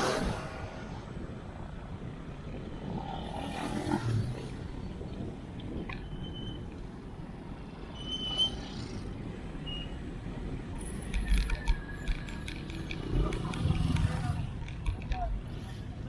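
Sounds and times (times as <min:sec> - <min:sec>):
low rumbling road noise: 0:00.0 - 0:16.0.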